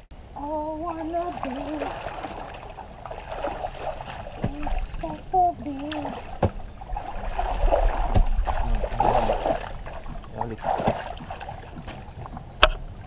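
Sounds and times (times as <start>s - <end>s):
person wading through water: 0.6s - 13.0s.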